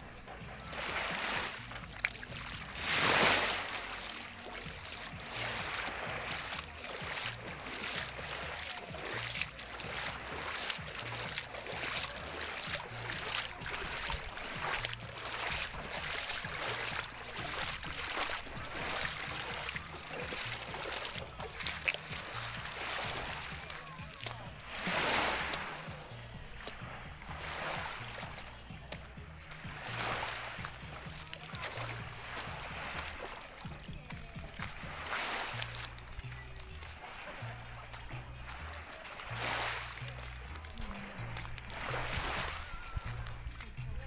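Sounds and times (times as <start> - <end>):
waves lapping on pebbles: 0.0 - 44.0
footsteps crunching on pebbles: 0.4 - 44.0.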